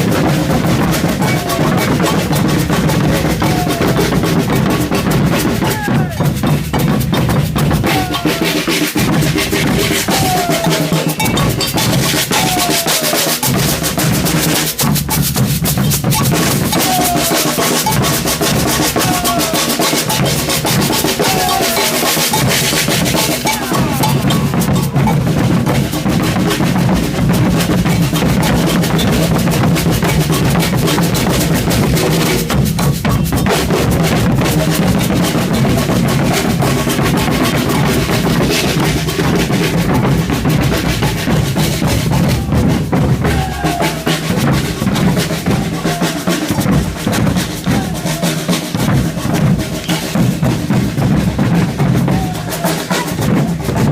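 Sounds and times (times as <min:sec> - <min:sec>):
massed drums rhythm: 0:00.0 - 0:53.9.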